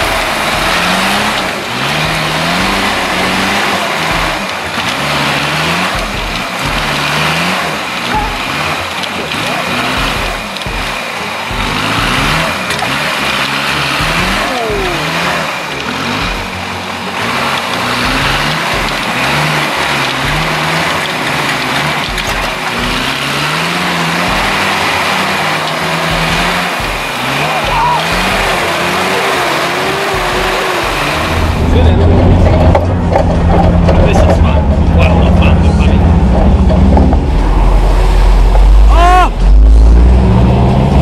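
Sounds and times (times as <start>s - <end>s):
off-road vehicle engine revving: 0.0s - 41.0s.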